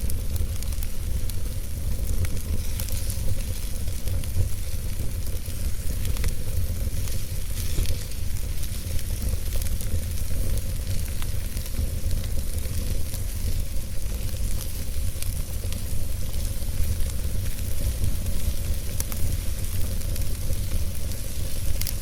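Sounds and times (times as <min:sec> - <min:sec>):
campfire hissing and popping: 0:00.0 - 0:22.0.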